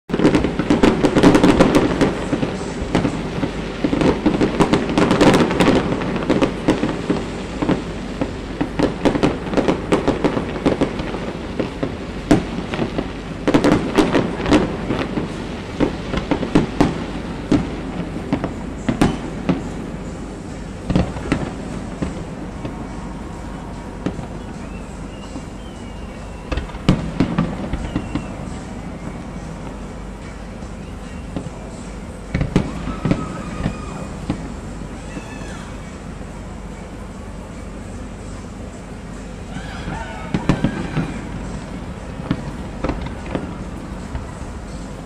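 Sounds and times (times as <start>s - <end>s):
fireworks bangs and crackles: 0.1s - 45.0s
rumbling background: 0.1s - 45.0s.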